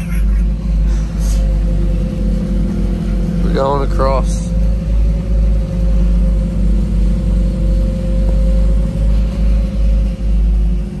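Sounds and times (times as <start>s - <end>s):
car engine drone while driving: 0.0s - 11.0s.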